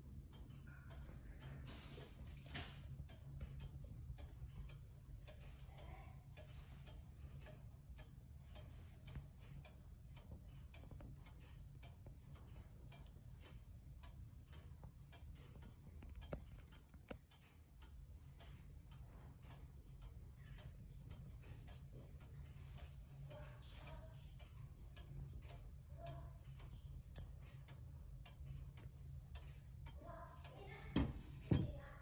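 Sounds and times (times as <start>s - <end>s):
pendulum clock ticking: 0.0s - 32.0s.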